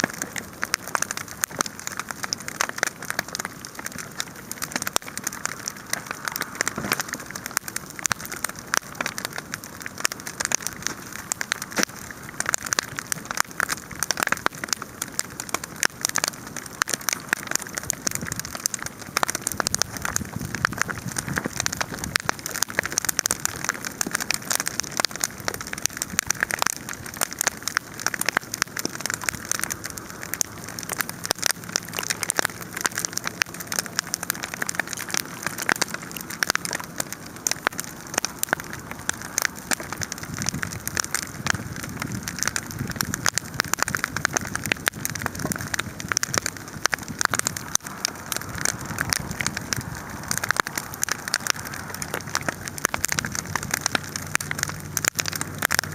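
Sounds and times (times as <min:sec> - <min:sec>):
large wood fire crackling: 0:00.0 - 0:55.9.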